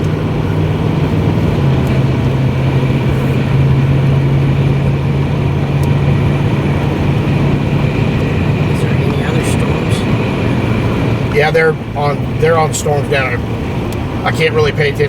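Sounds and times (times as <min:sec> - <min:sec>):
car engine drone and road noise: 0:00.0 - 0:15.0.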